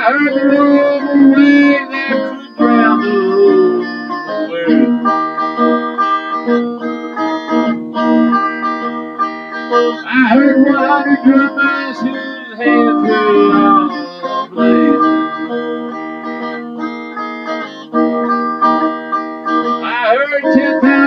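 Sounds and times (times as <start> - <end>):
electric guitar playing: 0.0 - 21.0.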